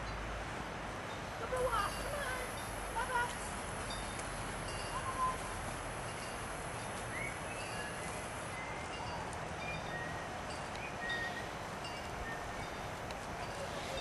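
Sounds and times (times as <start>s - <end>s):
wind rustling grass and trees: 0.0s - 14.0s.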